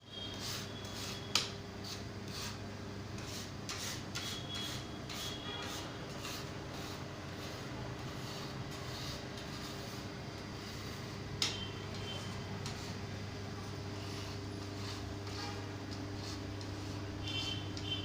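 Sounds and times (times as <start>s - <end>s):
beater scraping bowl: 0.1s - 2.6s, 3.2s - 13.1s, 14.0s - 18.0s.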